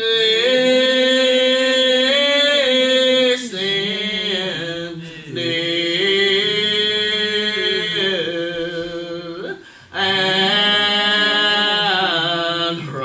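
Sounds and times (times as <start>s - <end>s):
congregation singing a hymn: 0.0s - 13.0s.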